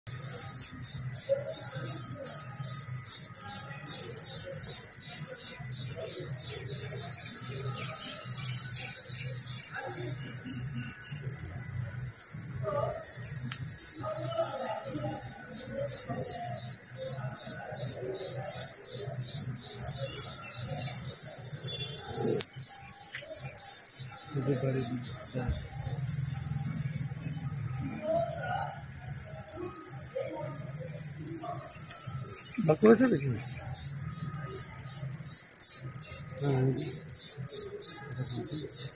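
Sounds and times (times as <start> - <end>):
cicadas buzzing: 0.1 - 38.9.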